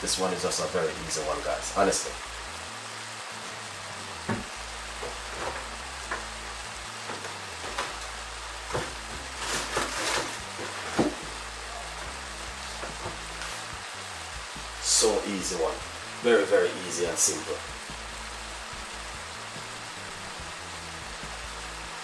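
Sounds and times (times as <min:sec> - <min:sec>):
vegetables sizzling in pan: 0:00.0 - 0:22.0.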